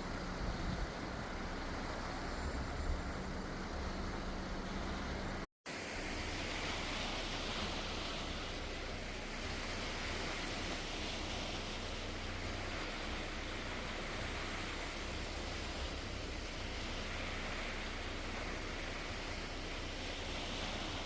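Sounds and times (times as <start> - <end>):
low engine hum: 0.0 - 21.0
rushing wind and water: 0.0 - 21.0.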